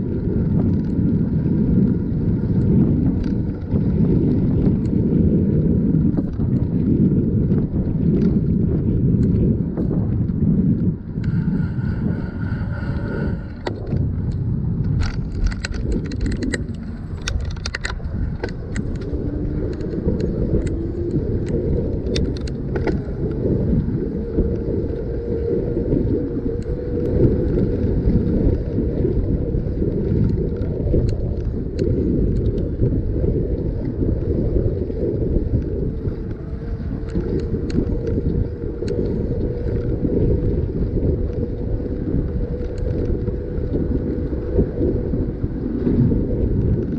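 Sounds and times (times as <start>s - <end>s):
bicycle clicks and rattles: 0.0s - 46.9s
bicycle tyre rumble: 0.0s - 46.9s
wind buffeting on microphone: 0.0s - 46.9s
steady hum: 8.0s - 46.9s.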